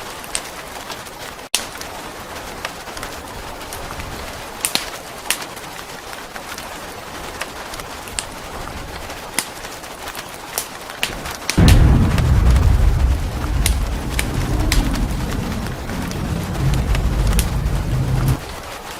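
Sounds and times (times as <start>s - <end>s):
steady rain hiss: 0.0s - 18.9s
wood fire crackling and popping: 1.5s - 18.8s.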